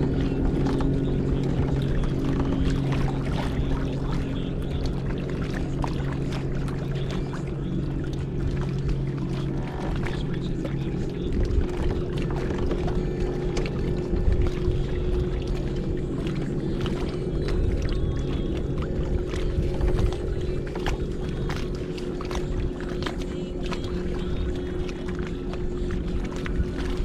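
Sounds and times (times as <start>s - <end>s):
clicks and splashes against hull: 0.0s - 27.0s
pedal drive humming: 0.0s - 27.0s
water sloshing: 0.0s - 27.0s.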